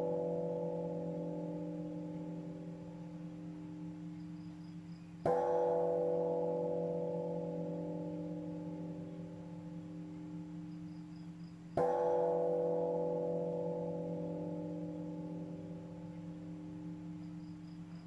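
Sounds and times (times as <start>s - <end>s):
meditation bell ringing: 0.0s - 18.0s.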